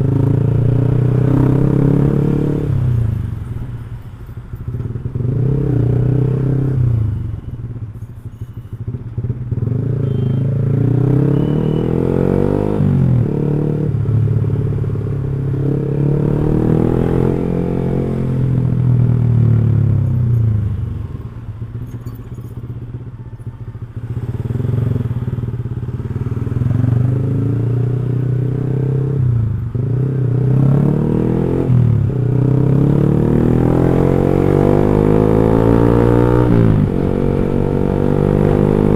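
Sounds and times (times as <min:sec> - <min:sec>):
motorcycle engine revving: 0:00.0 - 0:03.2, 0:08.8 - 0:21.9, 0:23.8 - 0:38.9.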